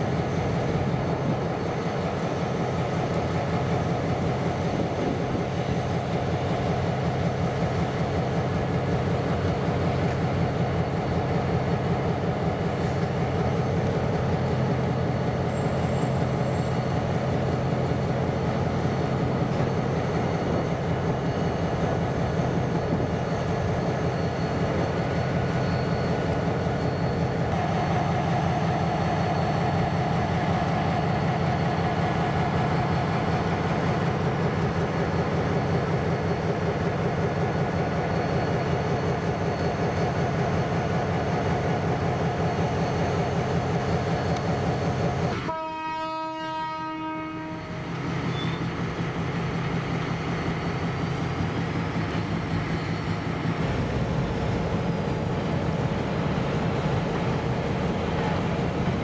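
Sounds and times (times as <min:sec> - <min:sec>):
freight train running: 0:00.0 - 0:59.0.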